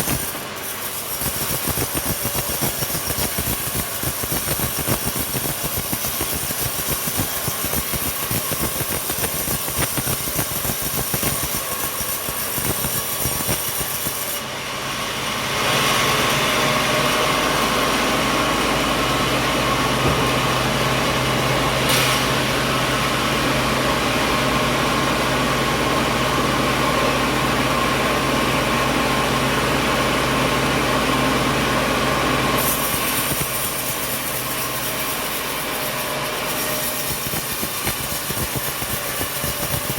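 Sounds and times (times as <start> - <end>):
saw cutting through log: 0.0 - 39.9
sawmill machinery running: 0.0 - 39.9.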